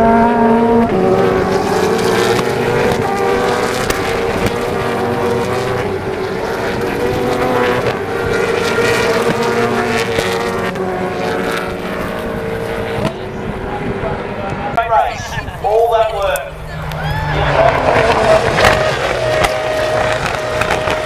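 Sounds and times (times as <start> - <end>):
racing cars passing: 0.0 - 21.0.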